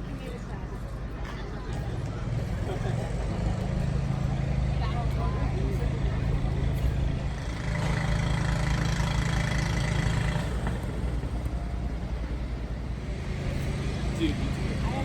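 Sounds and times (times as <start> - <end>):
engine running: 0.6 - 15.0.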